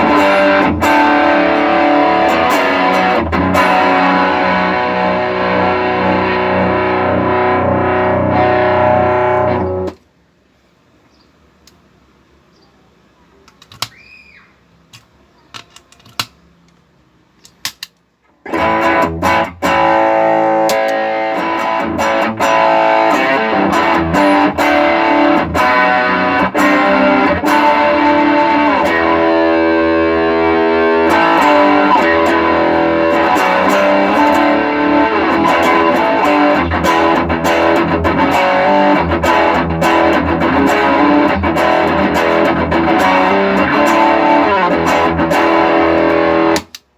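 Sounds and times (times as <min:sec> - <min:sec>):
distorted electric guitar: 0:00.0 - 0:10.0, 0:18.5 - 0:46.8.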